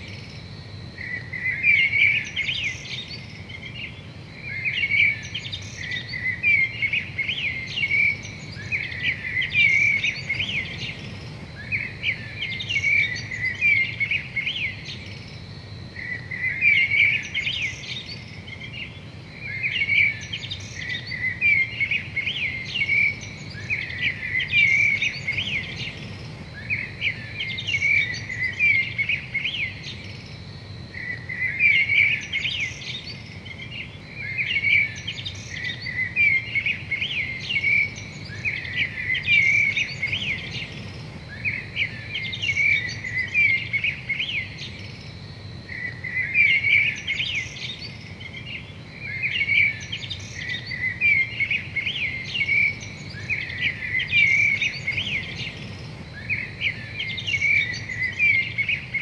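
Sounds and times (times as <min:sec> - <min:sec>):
birds chirping: 0:00.0 - 0:59.0
faint low hum: 0:00.0 - 0:59.0.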